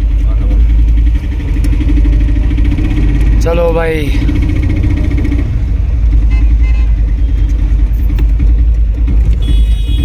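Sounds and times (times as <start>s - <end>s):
car engine rumble: 0.0s - 10.0s
road noise: 0.0s - 10.0s.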